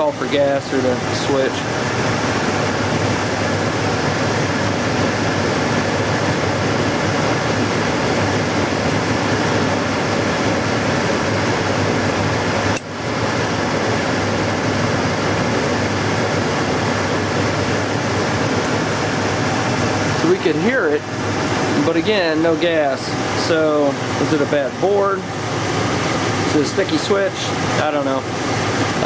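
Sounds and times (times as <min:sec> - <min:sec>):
furnace blower rushing air: 0:00.0 - 0:29.0.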